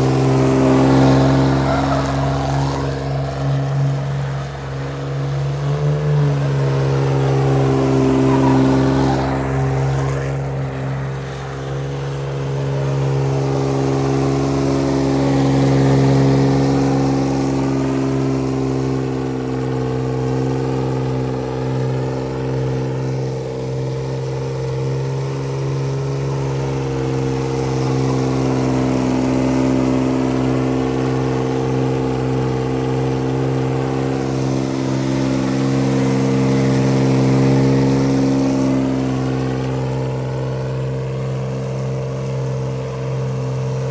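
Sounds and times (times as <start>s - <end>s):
higher pitched passing sound: 0.0s - 41.8s
engine revving in burnout: 0.0s - 43.9s.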